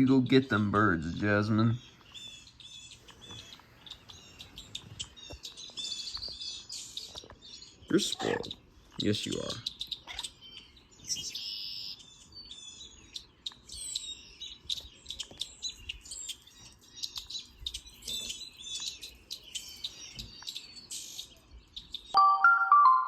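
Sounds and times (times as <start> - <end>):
songbirds chirping from a screen: 0.0 - 22.2.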